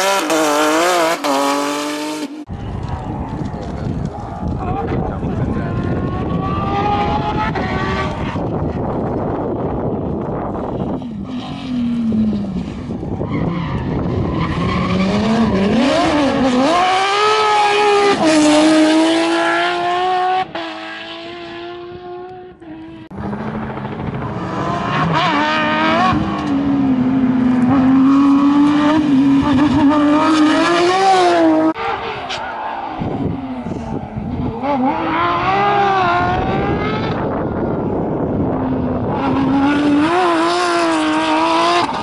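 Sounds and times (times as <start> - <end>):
car engine at high revs: 0.0 - 42.0
rally car engines at full throttle: 0.0 - 42.0.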